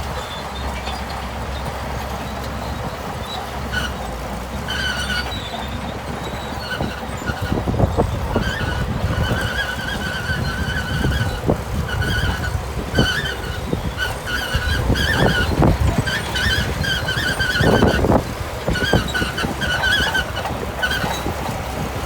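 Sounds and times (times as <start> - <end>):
bulldozer diesel drone: 0.0 - 22.0
steel tracks squealing: 0.0 - 22.0.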